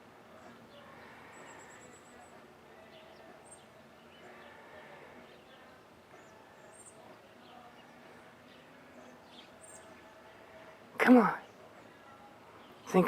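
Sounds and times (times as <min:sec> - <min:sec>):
faint outdoor hum: 0:00.0 - 0:13.0
small birds chirping: 0:00.0 - 0:13.0.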